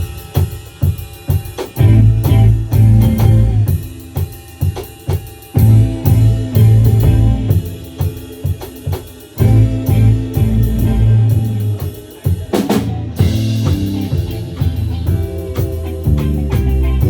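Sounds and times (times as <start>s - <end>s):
band playing: 0.0s - 17.0s
drum fill: 0.0s - 17.0s.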